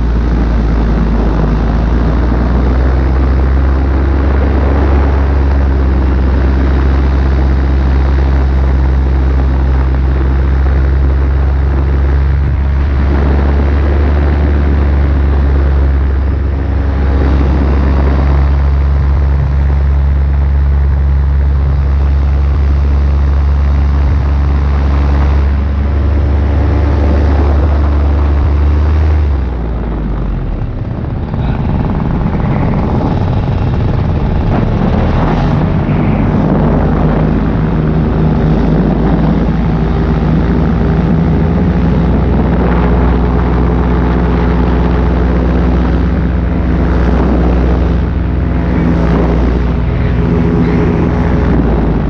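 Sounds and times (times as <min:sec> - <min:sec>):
paramotor engine and propeller: 0:00.0 - 0:52.0.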